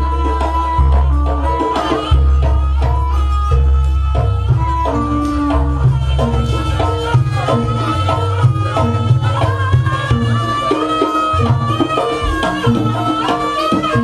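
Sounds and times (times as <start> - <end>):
hand drum patterns: 0.0 - 14.0
sustained bending melody: 0.0 - 14.0.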